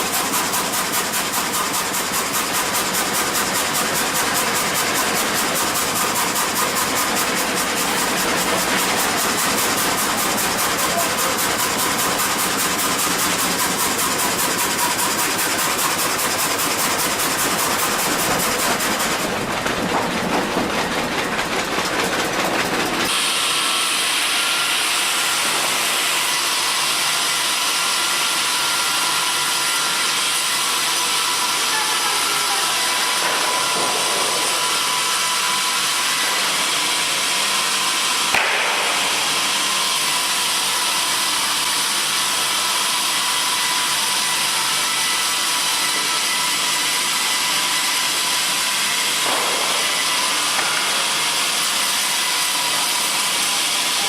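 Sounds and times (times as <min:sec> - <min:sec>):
saw hissing through timber: 0:00.0 - 0:19.4, 0:23.1 - 0:54.0.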